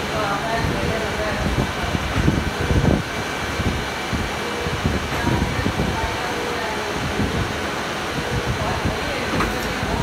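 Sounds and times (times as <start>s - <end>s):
faint constant tones: 0.0s - 10.0s.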